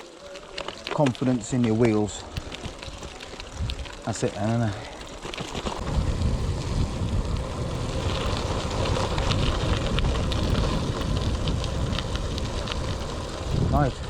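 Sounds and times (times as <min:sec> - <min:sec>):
stones clicking: 0:00.0 - 0:13.7
bike tyres crunching on gravel: 0:00.0 - 0:14.0
wind buffeting microphone: 0:01.8 - 0:14.0.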